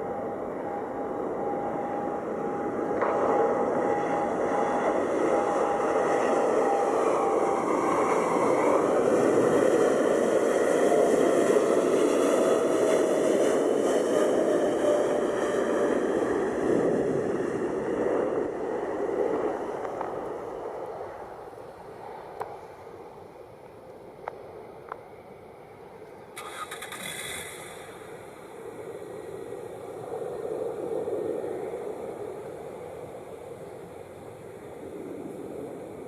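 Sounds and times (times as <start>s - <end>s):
jet airliner engines passing: 0.0s - 36.0s.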